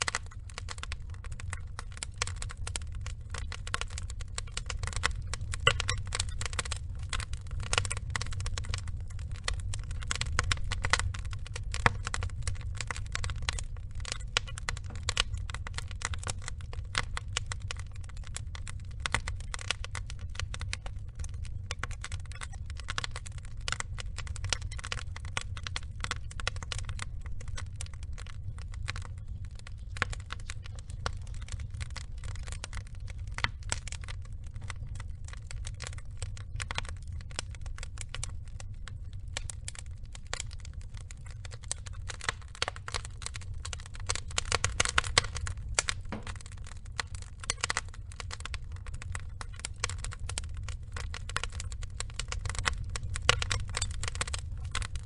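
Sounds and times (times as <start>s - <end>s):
burning logs crackling and popping: 0.0s - 55.0s
low rumble of fire: 0.0s - 55.0s.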